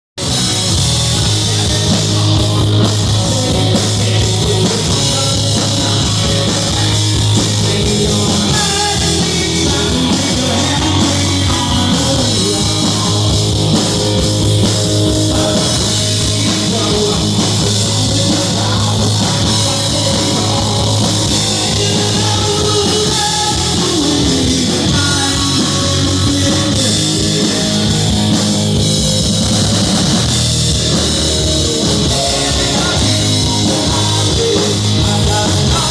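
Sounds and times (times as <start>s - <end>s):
loud rock music: 0.2s - 35.9s.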